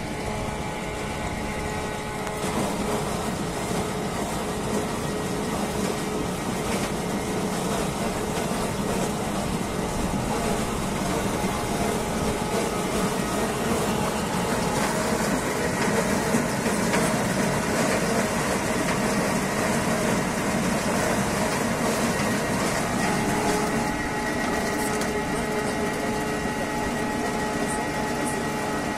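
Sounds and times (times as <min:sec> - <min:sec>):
apple mill grinding: 0:05.3 - 0:28.8.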